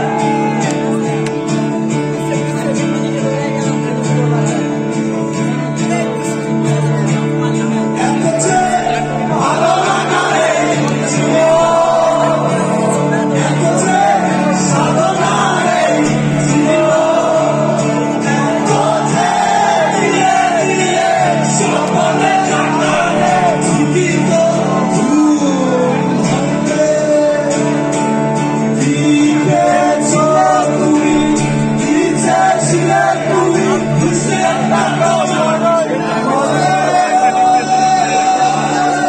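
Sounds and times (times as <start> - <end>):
live band playing loud: 0.0 - 39.0
man singing: 0.0 - 39.0.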